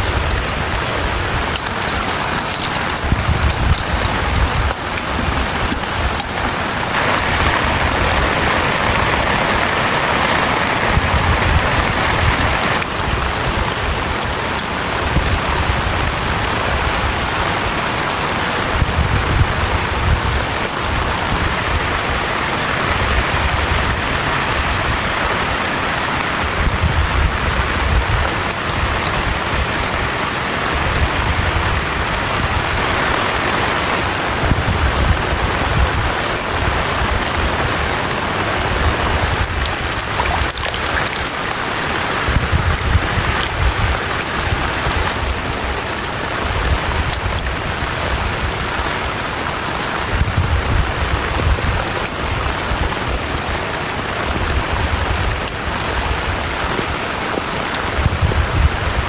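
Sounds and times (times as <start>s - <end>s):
heavy rain falling: 0.0s - 59.0s
wind gusts rumbling: 0.0s - 59.0s.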